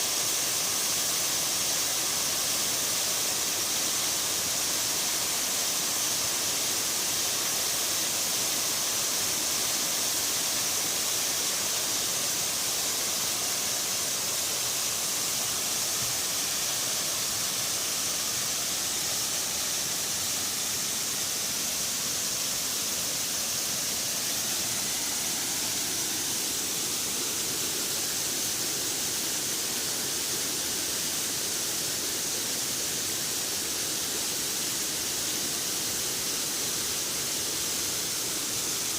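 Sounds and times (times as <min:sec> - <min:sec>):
waterfall and stream rushing: 0:00.0 - 0:38.9.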